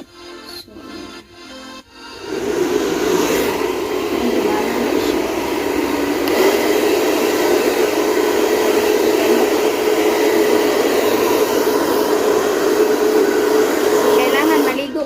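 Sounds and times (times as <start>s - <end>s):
hair dryer blowing: 1.9s - 15.0s.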